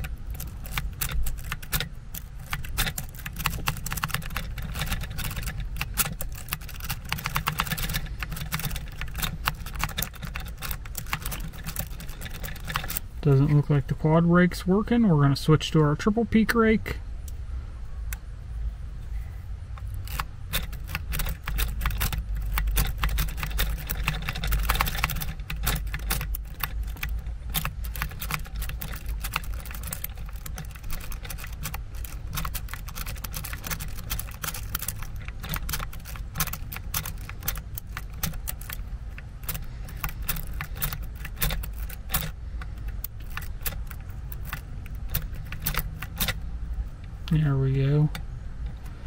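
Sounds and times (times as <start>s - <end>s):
lock pick clicks and scrapes: 0.0s - 13.6s, 19.8s - 47.3s.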